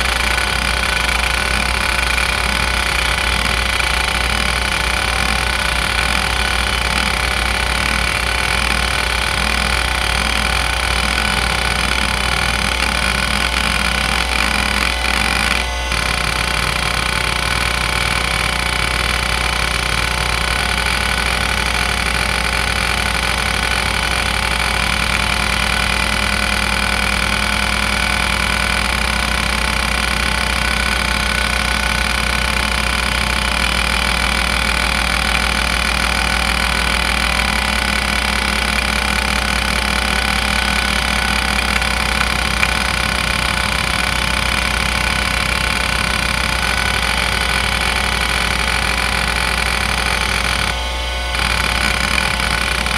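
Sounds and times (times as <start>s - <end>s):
hard drive head seeking: 0.0s - 52.9s
whine of spinning platters: 0.0s - 52.9s.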